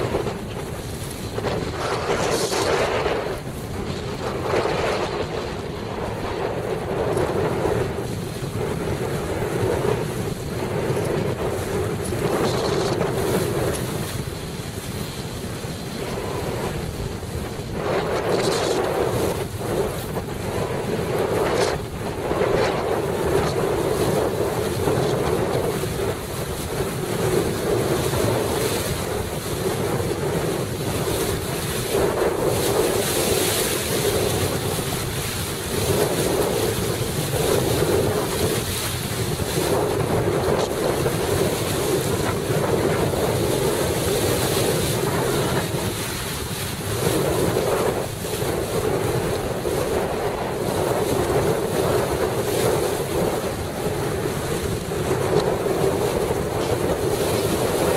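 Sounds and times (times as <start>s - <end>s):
water splashing along hull: 0.0s - 57.9s
wind buffeting microphone: 0.0s - 57.9s.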